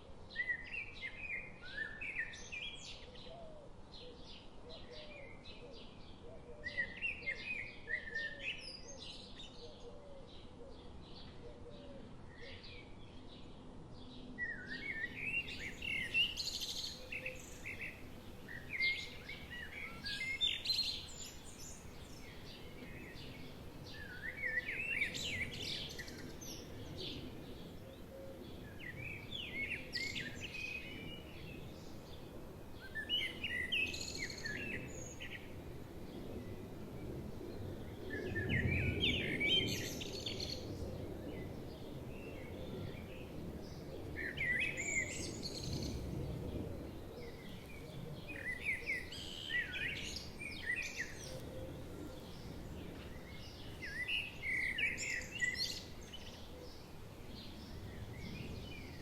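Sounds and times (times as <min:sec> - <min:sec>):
low forest background hiss: 0:00.0 - 0:59.0
songbirds chirping and trilling: 0:00.0 - 0:59.0.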